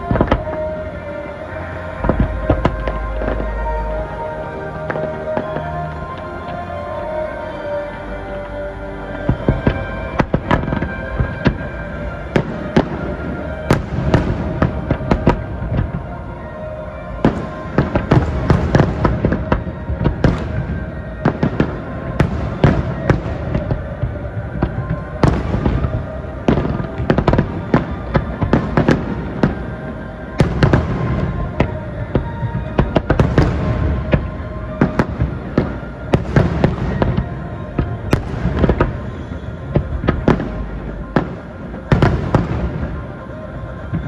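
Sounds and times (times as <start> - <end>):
fireworks bangs and crackles: 0.0 - 44.0
music playing: 0.0 - 44.0.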